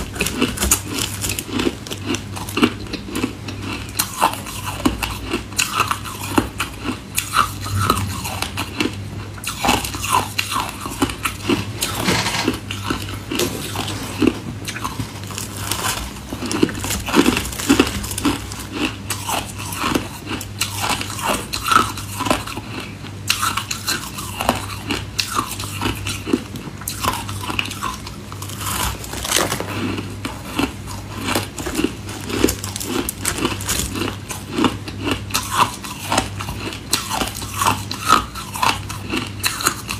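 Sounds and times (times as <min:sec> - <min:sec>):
crunching ice while chewing: 0:00.0 - 0:39.9.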